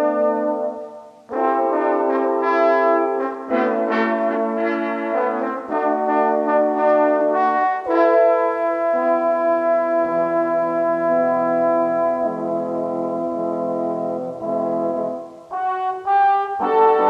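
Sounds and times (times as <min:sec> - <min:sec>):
french horns playing chords: 0:00.0 - 0:17.0.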